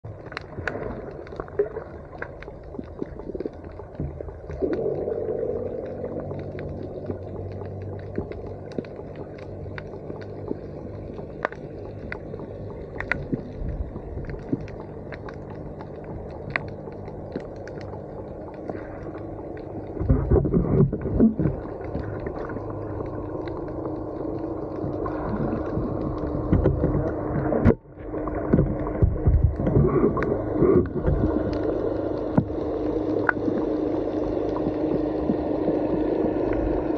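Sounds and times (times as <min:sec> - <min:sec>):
steady low hum: 0:00.0 - 0:36.9
muffled underwater noise: 0:00.1 - 0:36.9
underwater clicks: 0:00.2 - 0:36.9.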